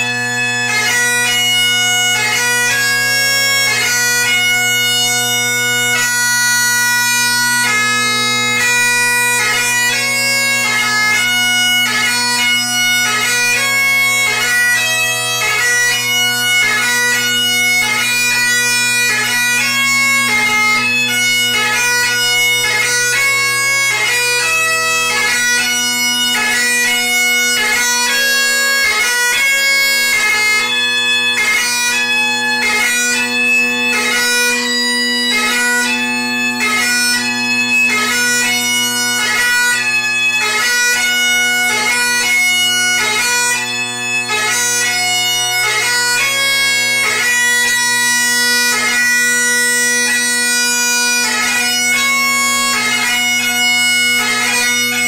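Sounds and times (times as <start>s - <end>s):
bagpipe playing: 0.0s - 55.0s.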